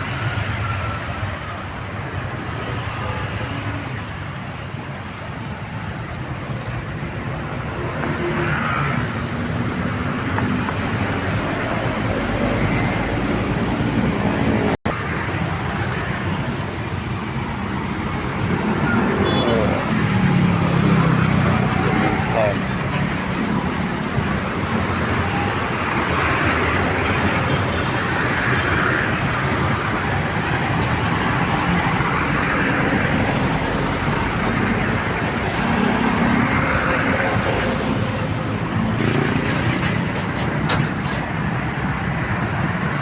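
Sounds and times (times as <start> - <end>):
traffic passing: 0.0 - 43.0.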